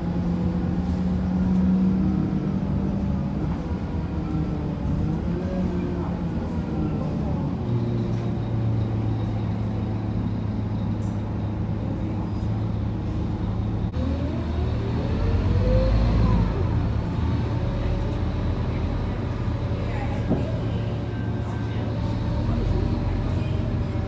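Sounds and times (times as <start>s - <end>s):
bus diesel engine humming: 0.0s - 24.0s.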